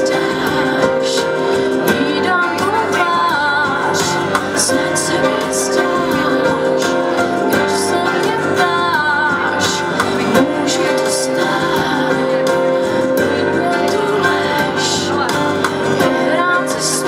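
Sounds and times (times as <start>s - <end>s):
acoustic guitar: 0.0s - 17.0s
woman singing: 0.0s - 17.0s.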